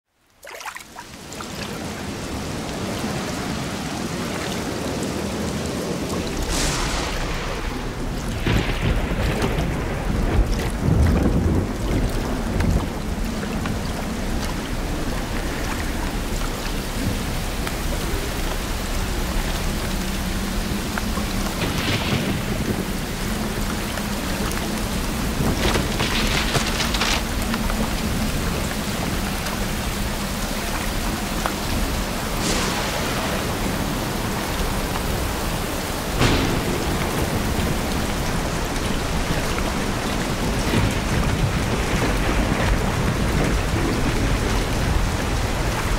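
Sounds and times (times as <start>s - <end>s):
heavy rain: 0.1s - 45.9s
crackling thunder: 4.8s - 45.9s
thunder rolling: 5.0s - 45.9s.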